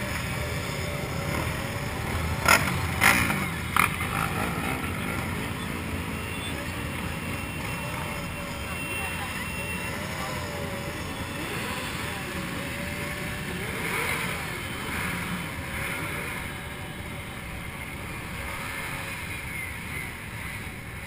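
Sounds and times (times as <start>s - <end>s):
crowd voices: 0.0s - 21.0s
motorcycle engines revving: 0.0s - 21.0s.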